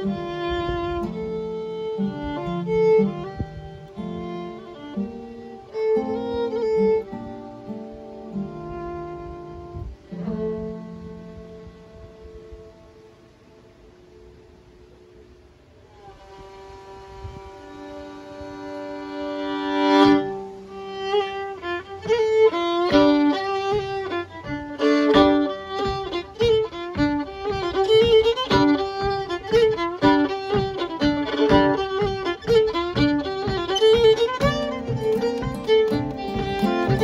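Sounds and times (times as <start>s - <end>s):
acoustic guitar: 0.0s - 13.0s, 19.8s - 37.0s
fiddle: 0.0s - 14.2s, 15.8s - 37.0s.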